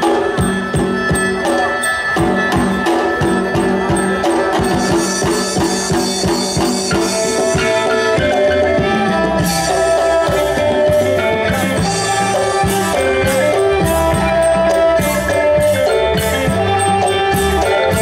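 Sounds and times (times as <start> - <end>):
folk ensemble melody: 0.0 - 18.0
jingling percussion: 0.0 - 18.0
steady drum beat: 0.0 - 18.0.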